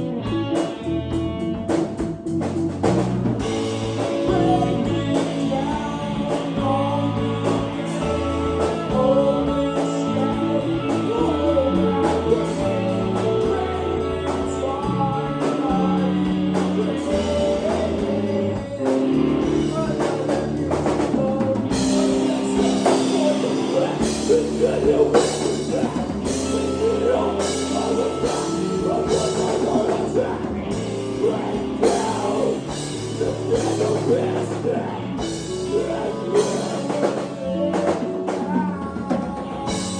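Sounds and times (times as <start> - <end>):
bass guitar: 0.0 - 39.9
drum kit: 0.0 - 39.9
live rock band playing: 0.0 - 39.9
person singing: 3.4 - 39.9.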